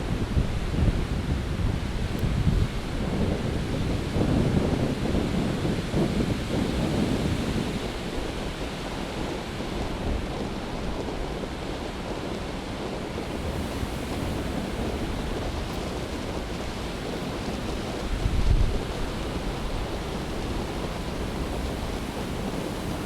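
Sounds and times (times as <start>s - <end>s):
surf waves breaking: 0.0s - 23.0s
wind buffeting microphone: 0.0s - 23.0s.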